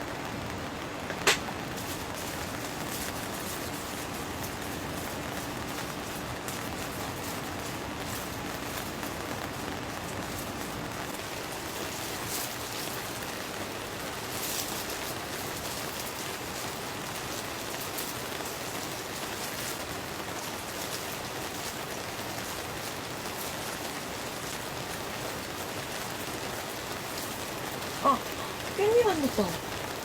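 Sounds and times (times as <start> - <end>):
rain falling on a tent: 0.0 - 30.0.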